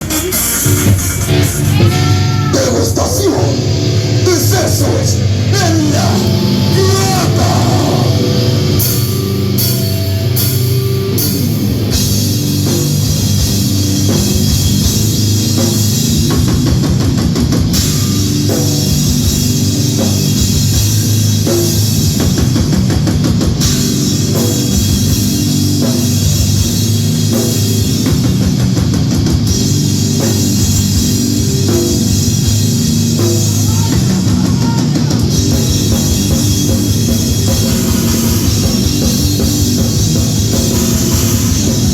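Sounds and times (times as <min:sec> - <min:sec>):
fast drum-kit hits: 0:00.0 - 0:41.9
heavily distorted guitar: 0:00.0 - 0:41.9.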